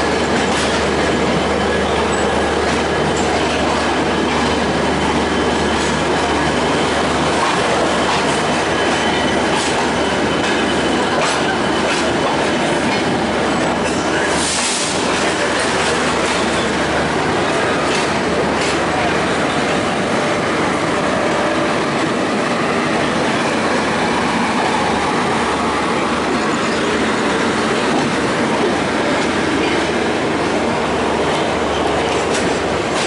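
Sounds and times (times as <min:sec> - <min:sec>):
train rush: 0:00.0 - 0:33.0
train wheels rumbling on rail: 0:00.0 - 0:33.0.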